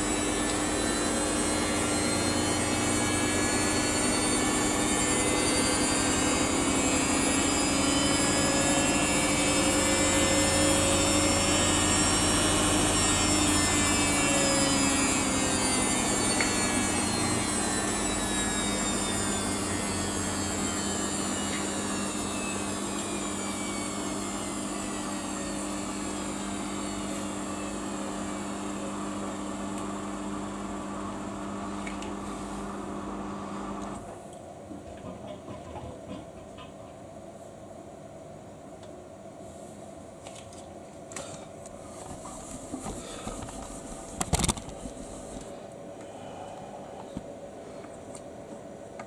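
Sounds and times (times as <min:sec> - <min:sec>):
washing machine motor whine: 0:00.0 - 0:37.3, 0:41.6 - 0:49.0.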